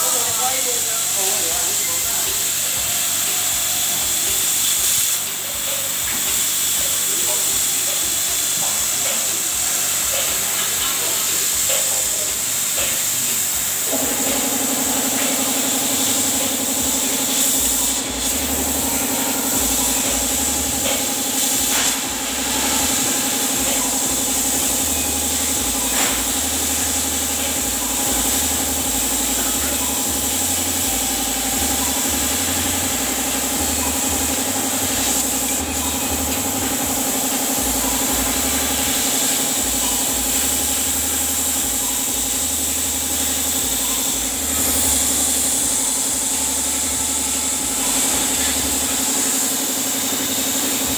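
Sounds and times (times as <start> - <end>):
compressed air hissing: 0.0 - 50.9.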